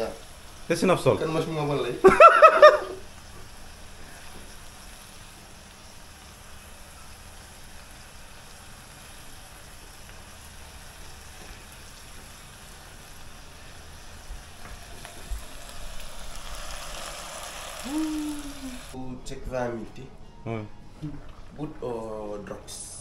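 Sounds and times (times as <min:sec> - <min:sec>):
curry sizzling in a pot: 0:00.0 - 0:19.0.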